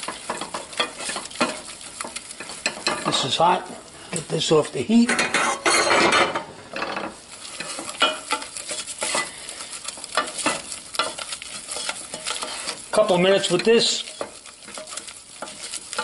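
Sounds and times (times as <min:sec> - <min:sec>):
wooden spoon scraping saucepan: 0:00.0 - 0:16.0.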